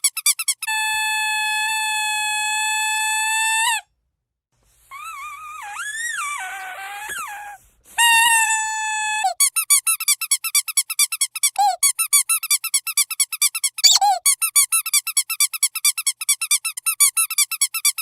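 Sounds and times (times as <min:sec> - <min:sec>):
squeaky dog toy squeaking: 0:00.0 - 0:03.8, 0:04.9 - 0:18.0.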